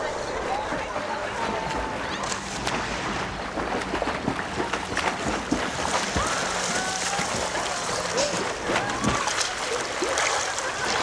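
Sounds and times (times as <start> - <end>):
pool water splashing: 0.0 - 11.0
slaps of water: 1.4 - 11.0.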